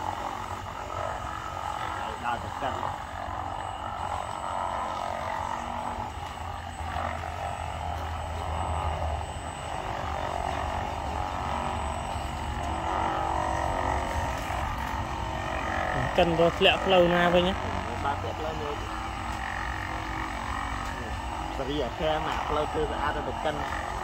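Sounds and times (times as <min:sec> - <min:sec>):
small electric motors whining: 0:00.0 - 0:24.0.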